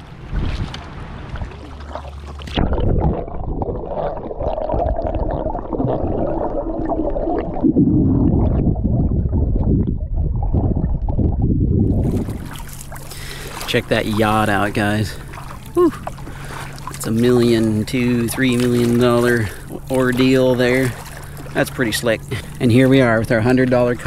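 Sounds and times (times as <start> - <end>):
kayak paddling: 0.0 - 24.0
underwater gurgling churn: 0.0 - 24.0
wind: 0.0 - 24.0.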